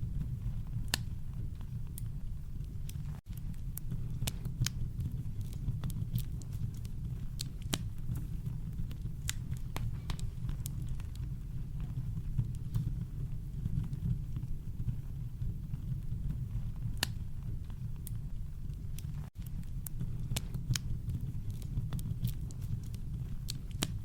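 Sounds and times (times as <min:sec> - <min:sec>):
campfire crackling and popping: 0:00.0 - 0:24.0
deep rumble of brown noise: 0:00.0 - 0:24.0.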